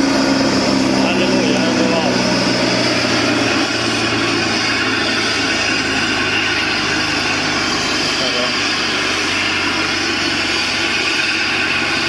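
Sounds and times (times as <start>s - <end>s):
helicopter turbine engines whining: 0.0s - 12.0s.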